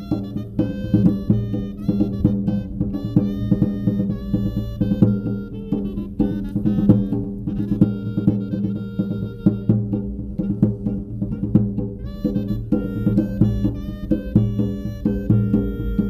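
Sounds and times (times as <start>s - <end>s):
bass drum booming: 0.0s - 16.0s
clarinets playing melody: 0.0s - 16.0s.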